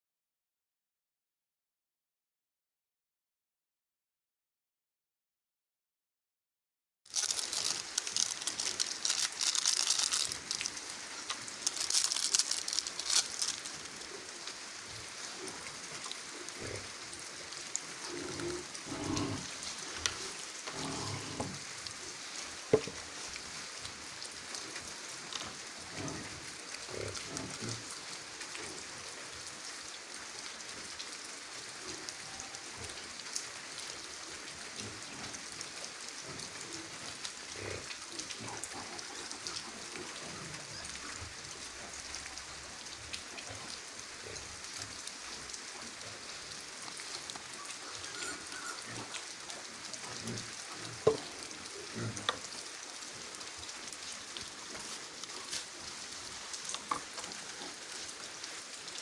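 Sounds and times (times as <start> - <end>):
light rain pattering: 7.1 - 59.0.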